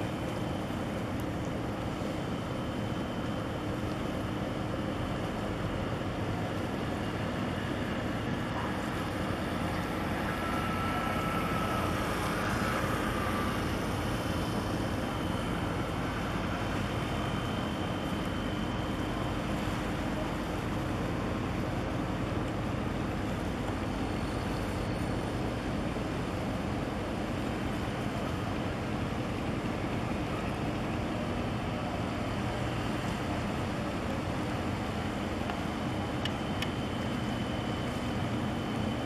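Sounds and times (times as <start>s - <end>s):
faint high whine: 0.0s - 39.0s.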